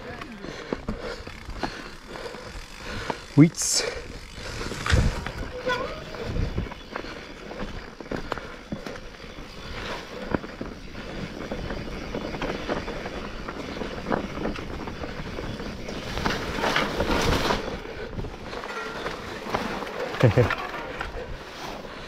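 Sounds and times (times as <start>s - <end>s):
bike rattles and knocks: 0.0s - 22.0s
bike tyres on dirt track: 0.0s - 22.0s.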